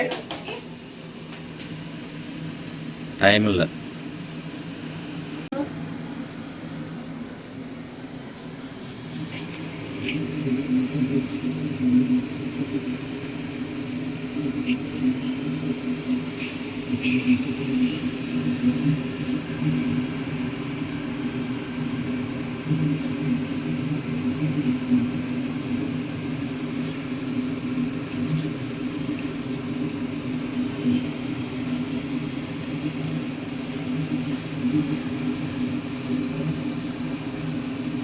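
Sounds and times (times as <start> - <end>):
low motor hum: 0.7 - 38.0.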